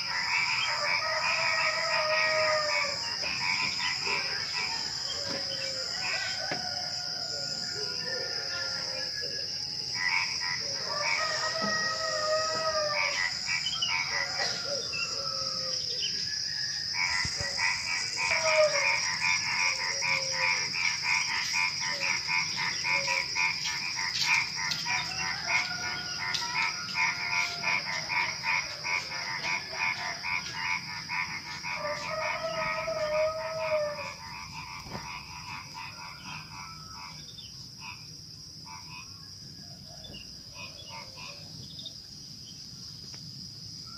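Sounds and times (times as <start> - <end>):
crickets droning: 0.0 - 43.9
frogs croaking: 0.0 - 43.9.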